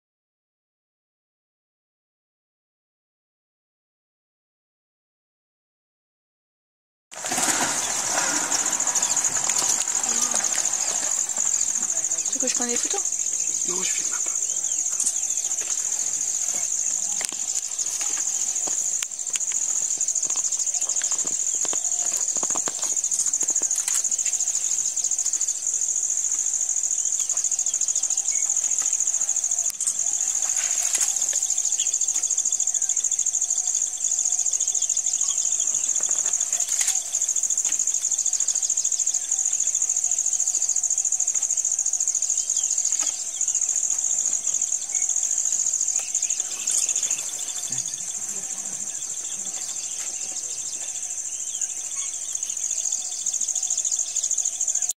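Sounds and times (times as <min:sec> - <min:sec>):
insect chorus shrill drone: 0:07.1 - 0:54.9.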